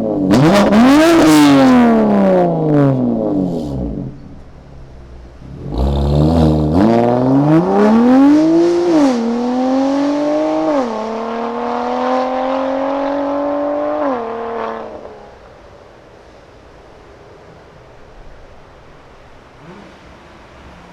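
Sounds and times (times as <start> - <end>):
car exhaust accelerating: 0.0 - 20.9.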